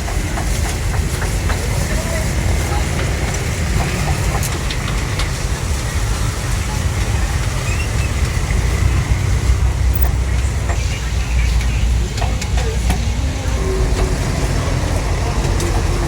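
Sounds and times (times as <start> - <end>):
busy street rumble: 0.0 - 16.0.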